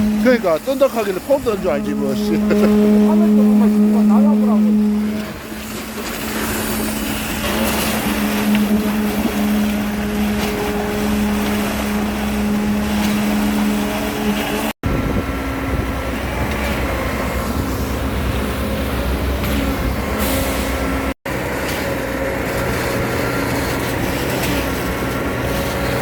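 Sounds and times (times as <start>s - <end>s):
heavy vehicle engine humming: 0.0s - 26.0s.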